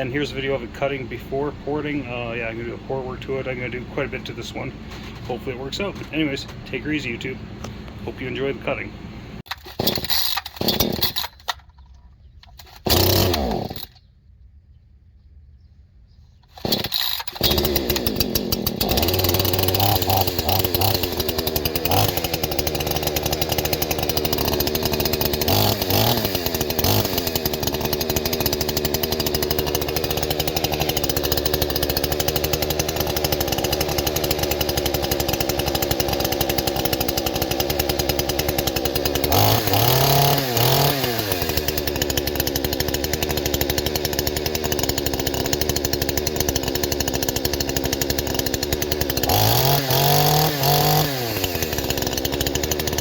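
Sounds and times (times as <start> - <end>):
chainsaw cutting wood: 0.0 - 8.5, 9.4 - 11.8, 12.4 - 14.0, 16.4 - 53.0.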